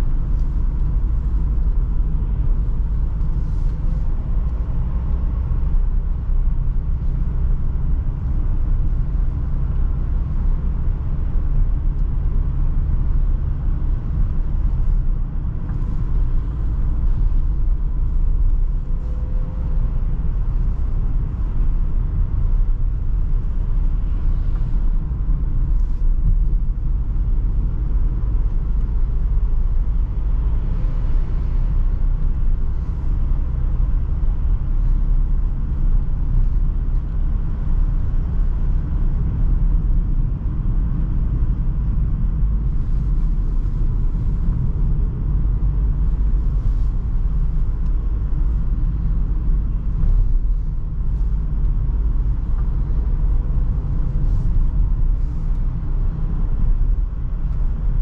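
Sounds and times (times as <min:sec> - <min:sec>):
van engine and road rumble: 0:00.0 - 0:58.0.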